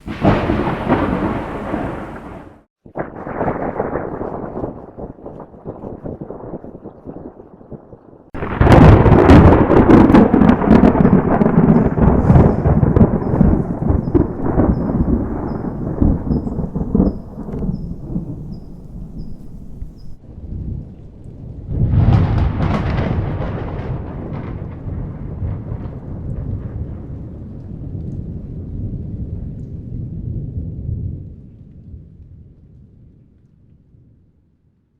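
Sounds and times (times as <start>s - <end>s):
thunder rumbling: 0.0s - 32.6s.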